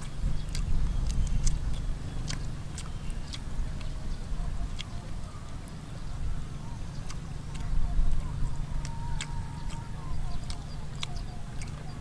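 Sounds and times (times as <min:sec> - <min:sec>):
chewing and crunching bones: 0:00.0 - 0:12.0
low steady rumble: 0:00.0 - 0:12.0.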